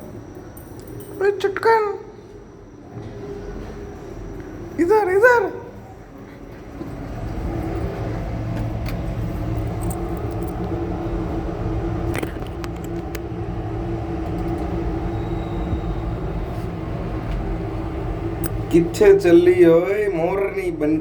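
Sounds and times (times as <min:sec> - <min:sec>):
vehicle engine humming: 0:02.1 - 0:21.0.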